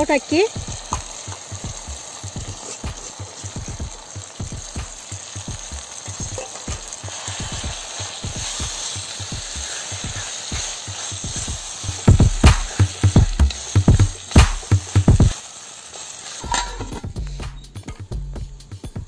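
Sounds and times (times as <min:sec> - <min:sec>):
masala sizzling in a pot: 0:00.0 - 0:18.9.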